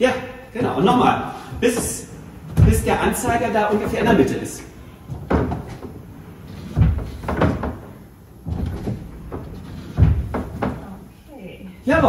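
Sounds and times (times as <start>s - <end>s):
heavy thumps: 0.5s - 11.2s, 11.8s - 12.0s
wooden treadle knocks and creaks: 1.4s - 11.1s.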